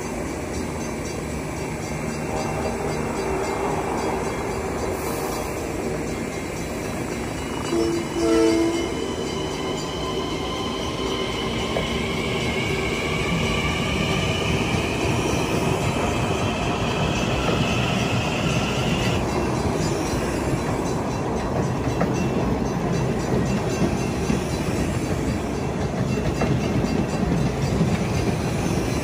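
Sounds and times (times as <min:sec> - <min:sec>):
wheel and rail noise: 0:00.0 - 0:29.0.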